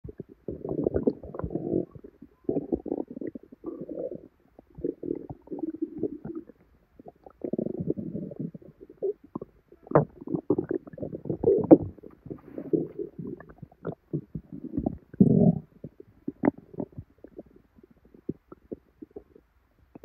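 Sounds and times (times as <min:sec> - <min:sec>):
stomach gurgling: 0:00.1 - 0:20.0.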